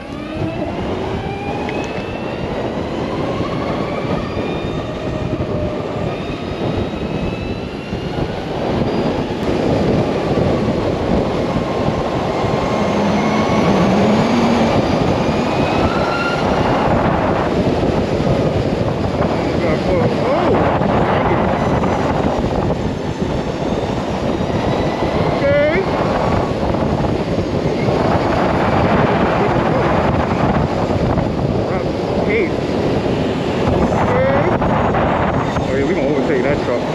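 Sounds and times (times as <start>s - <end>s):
wind and road noise: 0.0s - 36.9s.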